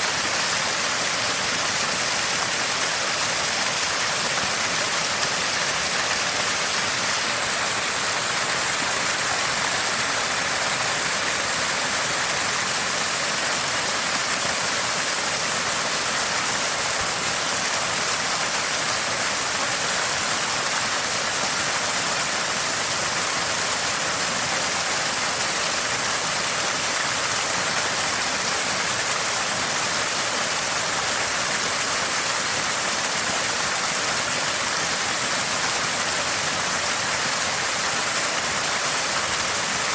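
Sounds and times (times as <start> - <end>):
spring water gushing and gurgling: 0.0 - 39.9.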